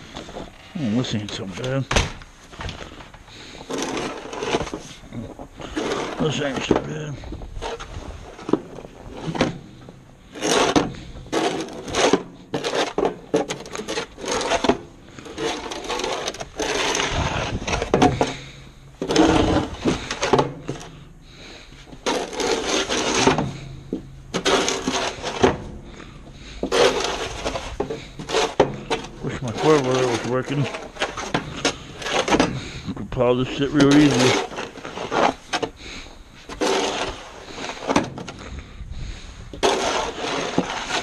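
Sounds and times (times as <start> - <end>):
snow shovel scraping snow: 3.4 - 32.8, 33.4 - 41.0.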